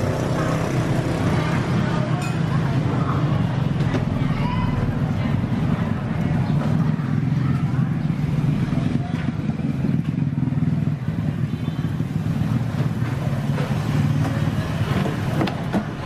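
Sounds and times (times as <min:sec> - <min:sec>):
traffic engine hum: 0:00.0 - 0:16.0.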